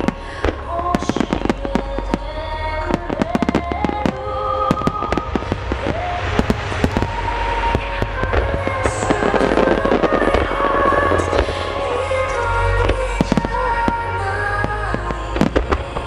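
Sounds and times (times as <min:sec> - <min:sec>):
music with sung melody: 0:00.0 - 0:16.0.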